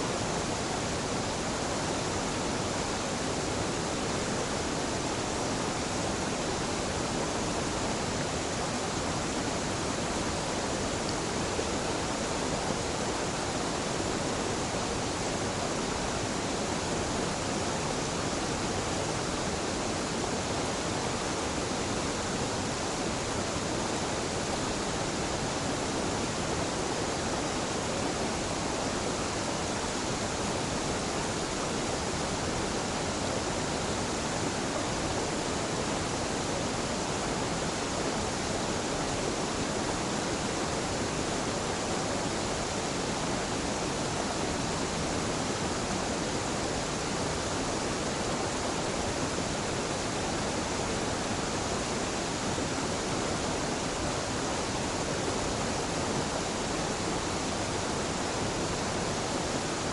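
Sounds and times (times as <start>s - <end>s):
waterfall water rushing: 0.0s - 59.9s.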